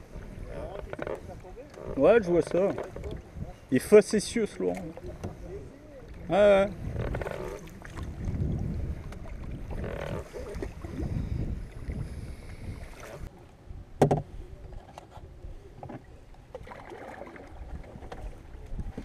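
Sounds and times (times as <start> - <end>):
paddle strokes in water: 0.0 - 19.0
wind rumbling on microphone: 0.0 - 19.0.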